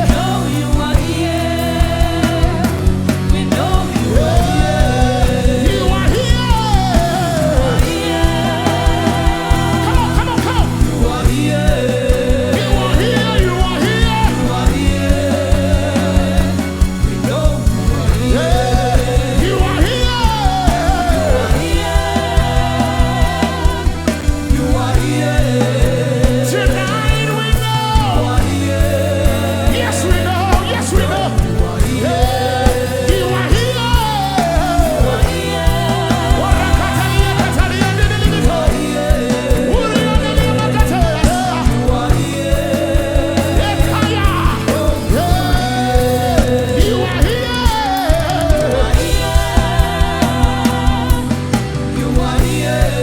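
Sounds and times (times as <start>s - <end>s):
band with drum beat and bass: 0.0s - 53.0s
person singing with vibrato: 0.0s - 53.0s.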